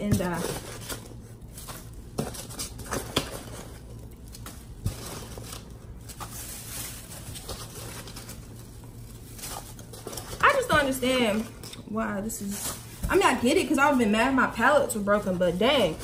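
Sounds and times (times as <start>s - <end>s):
hands rummaging in packing peanuts: 0.0s - 16.0s
plastic bag crinkling: 0.0s - 16.0s.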